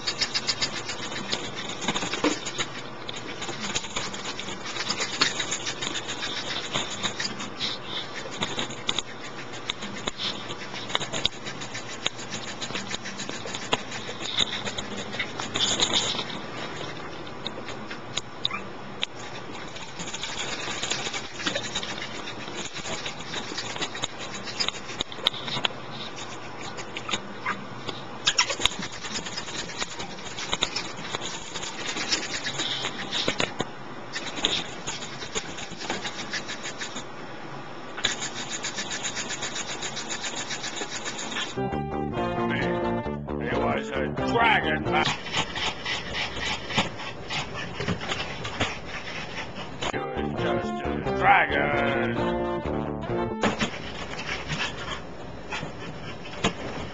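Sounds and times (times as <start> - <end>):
dog claws scratching and pattering: 0.0 - 37.1, 38.0 - 41.6, 45.0 - 50.0, 53.4 - 56.9.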